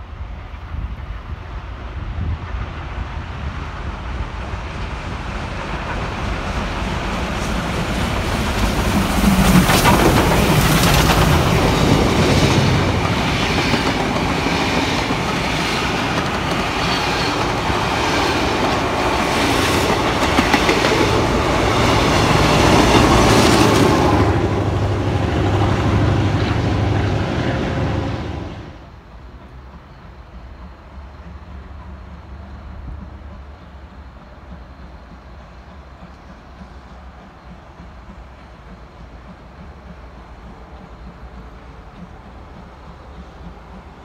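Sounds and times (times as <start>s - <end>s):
steam locomotive passing: 0.0s - 44.0s.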